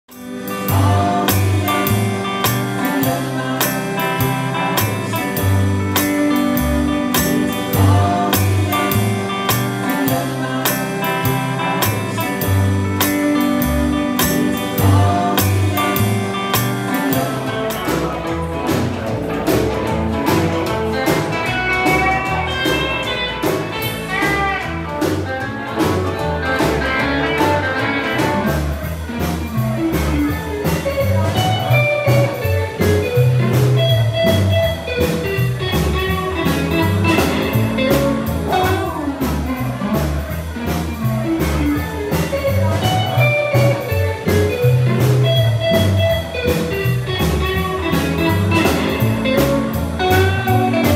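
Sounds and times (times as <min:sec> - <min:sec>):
honky-tonk country music: 0:00.1 - 0:50.9.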